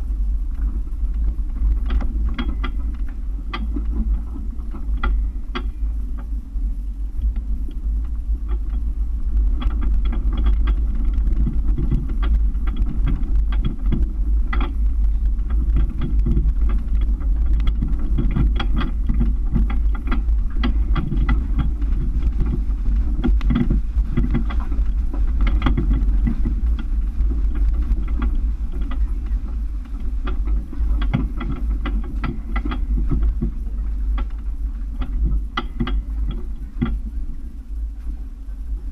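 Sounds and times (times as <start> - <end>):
truck engine low rumble: 0.0 - 38.9
knocks and rattles over rocks: 0.5 - 6.4, 7.2 - 37.4.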